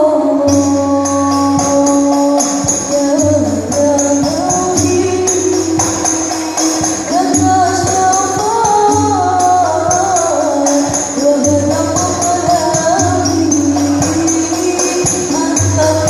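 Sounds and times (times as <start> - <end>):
hand drums: 0.4 - 16.0
jingling percussion: 0.5 - 16.0.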